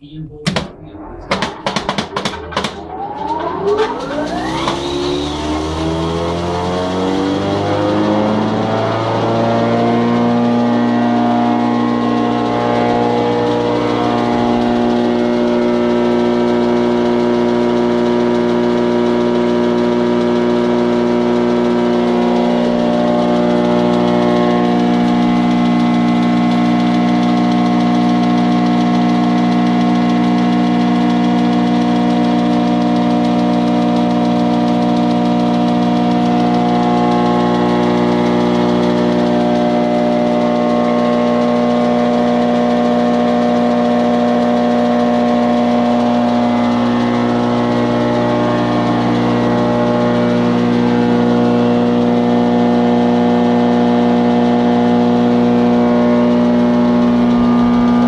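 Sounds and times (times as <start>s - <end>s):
planer motor humming: 0.0s - 58.0s.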